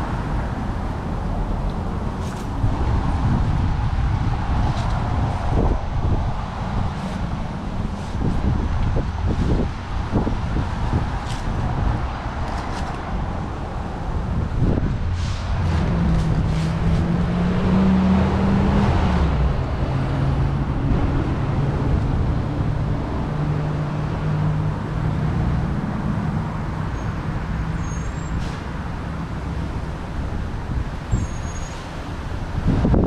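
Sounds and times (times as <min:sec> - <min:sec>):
traffic noise: 0:00.0 - 0:33.0.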